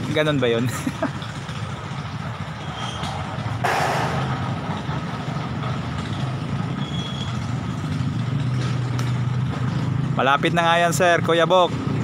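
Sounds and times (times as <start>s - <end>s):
vehicle engine rumble: 0.0s - 11.2s.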